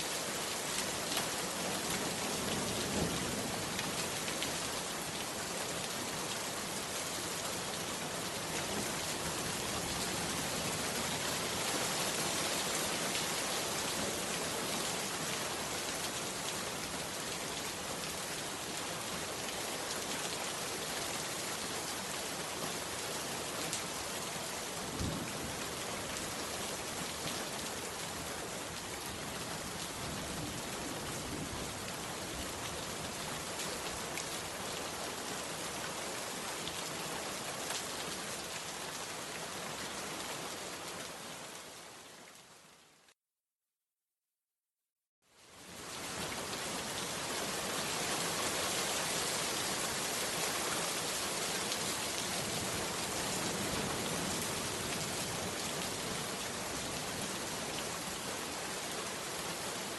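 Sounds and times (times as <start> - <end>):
heavy rain falling: 0.0 - 42.4, 45.6 - 59.9.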